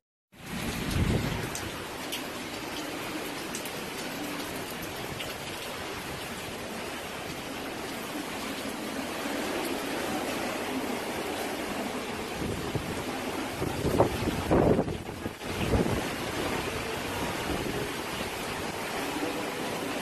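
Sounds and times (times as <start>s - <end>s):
heavy rain hissing: 0.4s - 20.0s.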